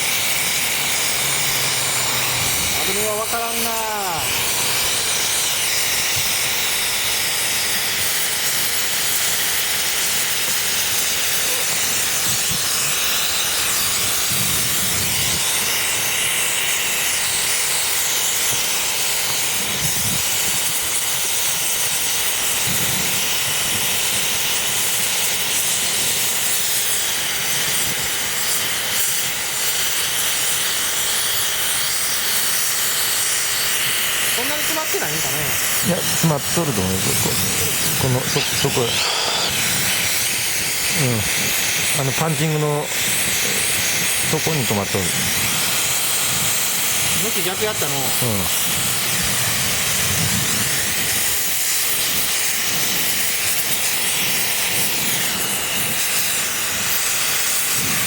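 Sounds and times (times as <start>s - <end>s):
loud hiss of forced air: 0.0s - 58.0s.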